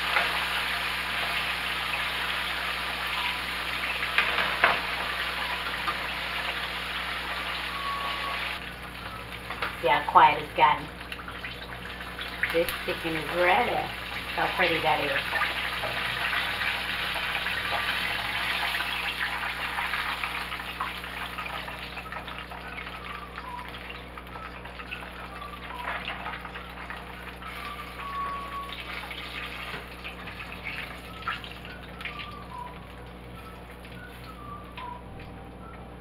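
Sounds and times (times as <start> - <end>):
oil sizzling with pops: 0.0 - 35.3.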